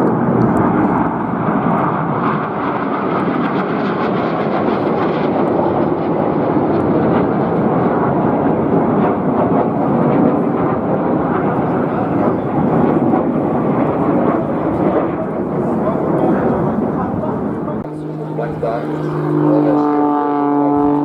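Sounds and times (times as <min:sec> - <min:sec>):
aircraft flying past: 0:00.0 - 0:21.0.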